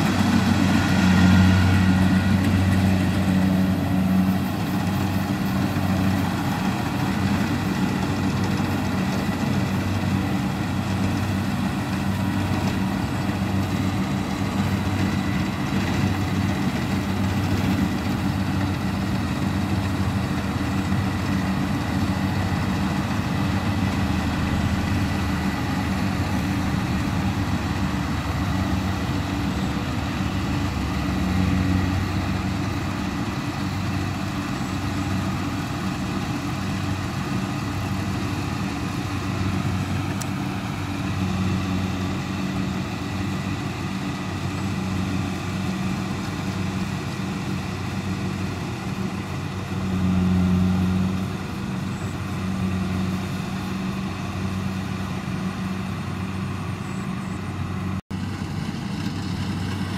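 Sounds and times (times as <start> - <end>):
combine harvester diesel engine running: 0.0 - 59.9.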